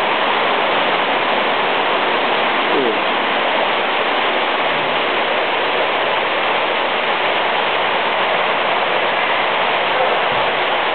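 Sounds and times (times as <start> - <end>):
machinery and water rushing: 0.0 - 10.9.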